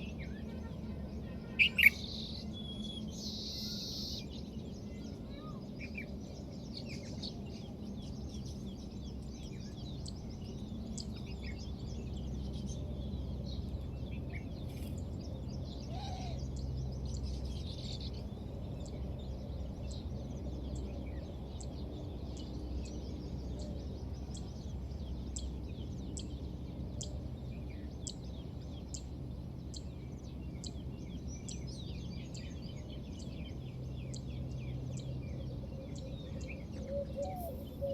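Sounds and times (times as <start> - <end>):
low background rumble: 0.0 - 37.9
small birds chirping: 0.0 - 37.9.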